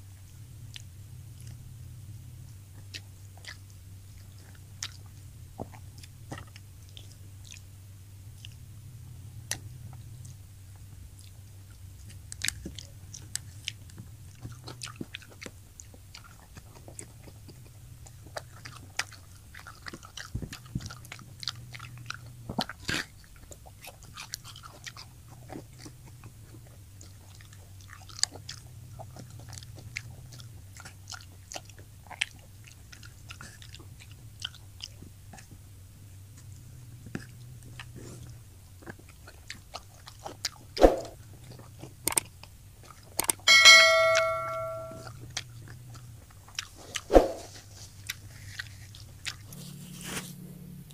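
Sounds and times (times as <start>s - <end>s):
crunching and chewing fried fish: 0.0s - 43.5s, 45.0s - 50.9s.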